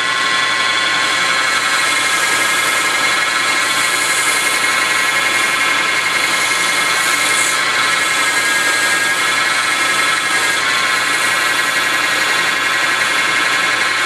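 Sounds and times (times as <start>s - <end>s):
wood lathe whining: 0.0s - 14.0s
sandpaper hissing on wood: 1.6s - 13.2s.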